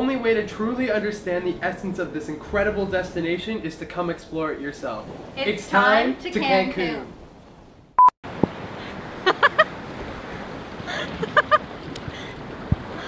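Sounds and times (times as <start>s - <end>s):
surf: 0.0s - 7.3s, 8.3s - 13.0s
wind: 0.0s - 13.0s.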